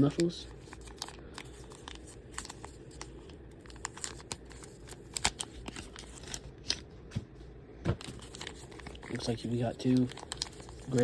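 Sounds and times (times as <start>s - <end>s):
packaging crinkling and rustling: 0.4s - 6.9s, 8.0s - 11.0s.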